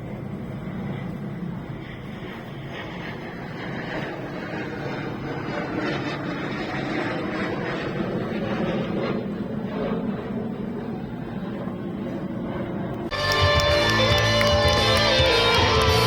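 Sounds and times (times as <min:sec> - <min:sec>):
aircraft flying overhead: 0:00.0 - 0:16.0.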